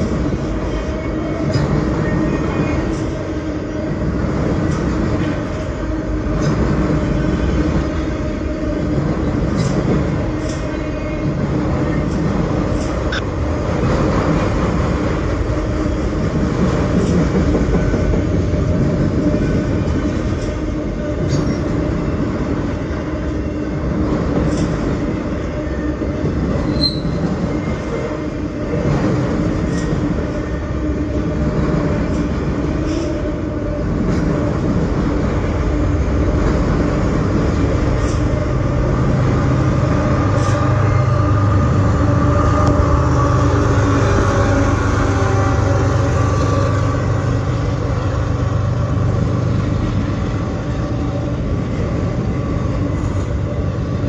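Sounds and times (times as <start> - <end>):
diesel locomotive engine running: 0.0 - 54.0
steel wheels rumbling on rail: 0.0 - 54.0.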